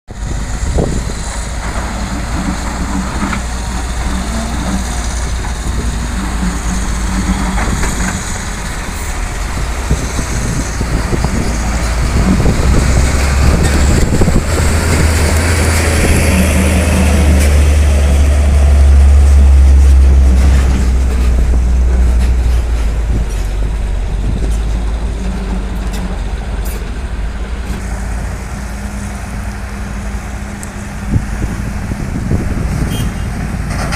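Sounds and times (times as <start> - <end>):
diesel truck engine running: 0.1 - 33.9.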